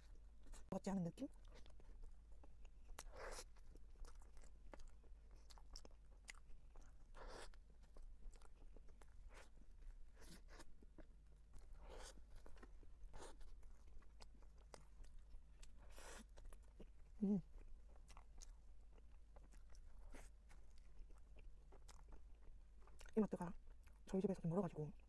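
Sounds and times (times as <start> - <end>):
chewing soft bread: 0.0 - 25.0.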